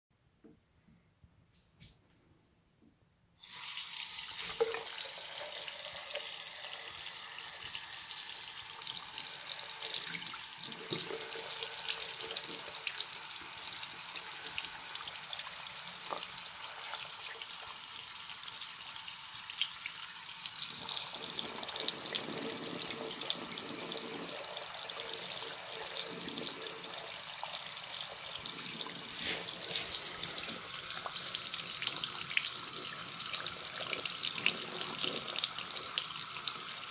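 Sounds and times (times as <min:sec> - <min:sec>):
water running into basin: 0:03.4 - 0:36.9.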